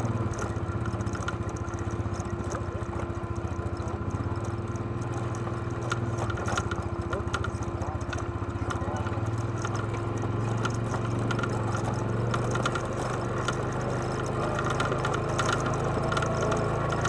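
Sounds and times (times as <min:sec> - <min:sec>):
atv engine running: 0:00.0 - 0:17.0
clicks and rattles over stones: 0:00.0 - 0:17.0.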